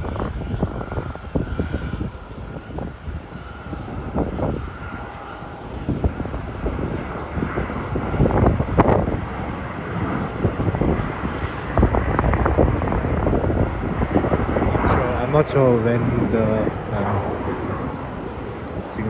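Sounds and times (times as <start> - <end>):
jet engines roaring: 0.0 - 19.0
wind gusts on microphone: 0.0 - 19.0.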